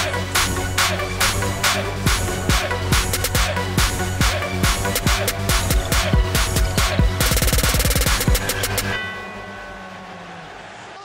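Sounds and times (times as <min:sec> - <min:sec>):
electronic dance music: 0:00.0 - 0:10.5.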